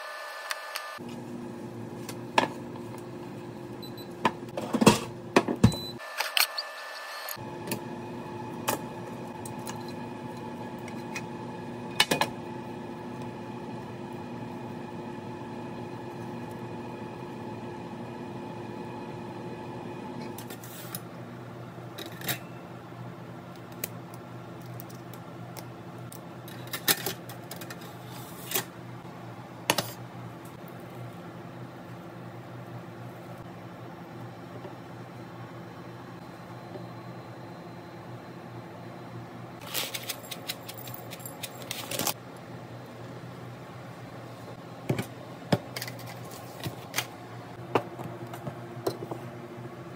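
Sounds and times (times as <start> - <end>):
appliance hum: 0.0 - 49.9.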